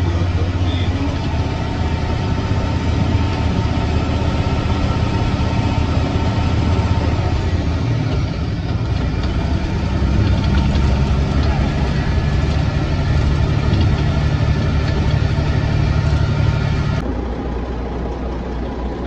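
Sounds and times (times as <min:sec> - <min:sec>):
tyre noise on dirt road: 0:00.0 - 0:17.5
diesel truck engine running: 0:00.0 - 0:19.0.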